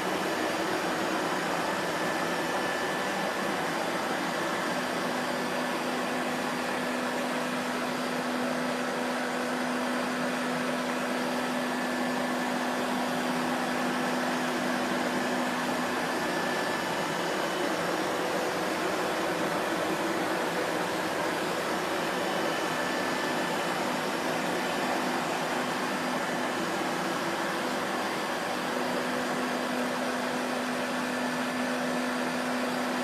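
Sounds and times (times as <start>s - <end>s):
vacuum cleaner motor running: 0.0s - 33.0s.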